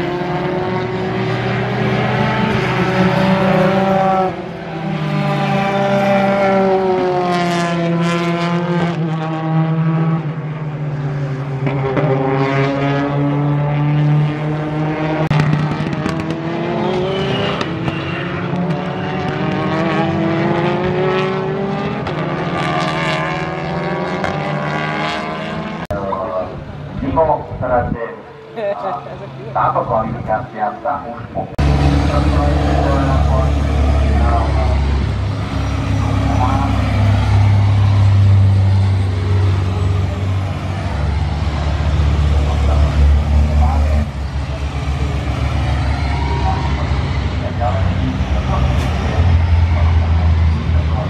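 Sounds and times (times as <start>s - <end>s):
race truck engines passing: 0.0s - 51.0s.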